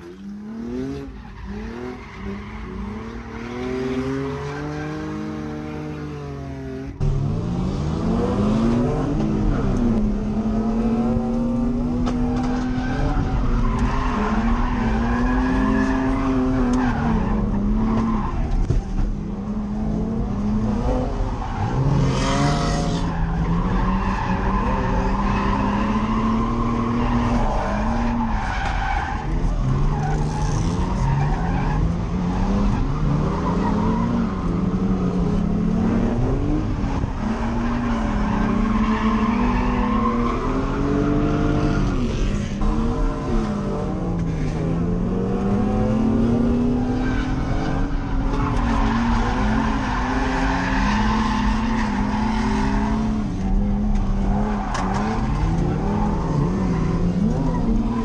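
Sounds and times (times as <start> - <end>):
tyres skidding and squealing: 0.0 - 7.0, 12.0 - 19.4, 20.7 - 58.0
car engine revving: 0.0 - 58.0.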